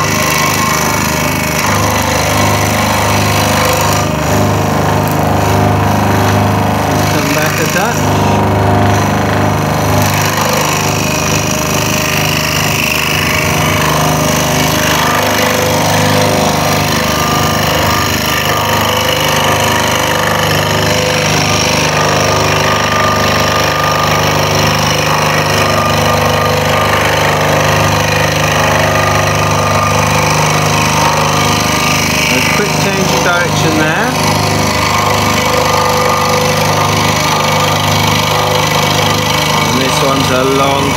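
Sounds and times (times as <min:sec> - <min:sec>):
scroll saw cutting wood: 0:00.0 - 0:40.9.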